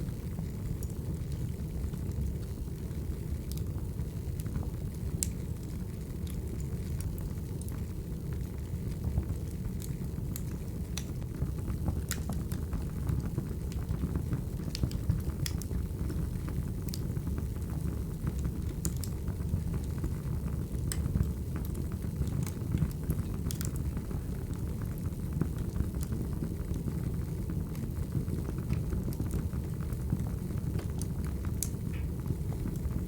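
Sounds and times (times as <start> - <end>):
wood fire crackling: 0.0 - 33.0
fire pops and snaps: 0.3 - 2.5, 4.4 - 7.8, 8.4 - 33.0.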